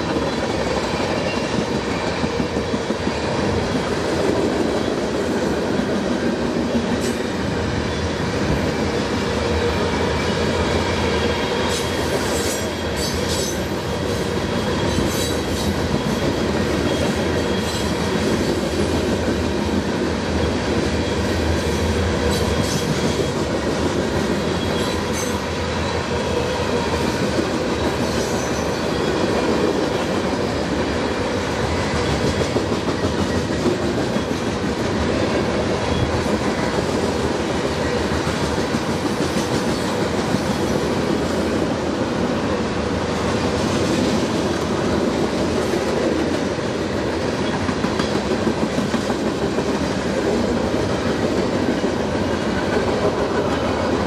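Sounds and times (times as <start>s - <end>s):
steel wheels rumbling on rails: 0.0s - 54.0s.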